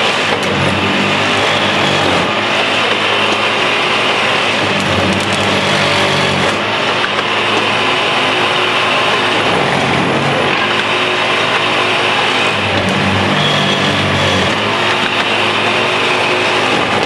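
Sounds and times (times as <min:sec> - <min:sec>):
track tamper engine running: 0:00.0 - 0:17.0
tamping tines vibrating: 0:00.5 - 0:17.0.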